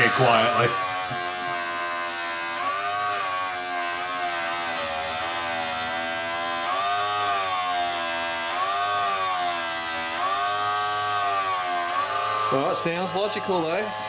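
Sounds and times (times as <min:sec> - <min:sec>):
rotary tool grinding plastic: 0:00.0 - 0:14.0.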